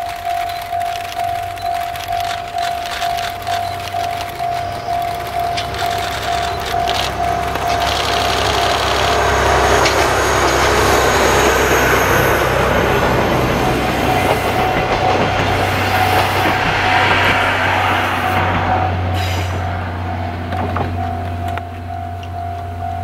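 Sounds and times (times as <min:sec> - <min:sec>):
train wheels rolling over rails: 0:00.0 - 0:22.8
diesel locomotive engine running: 0:00.0 - 0:23.0.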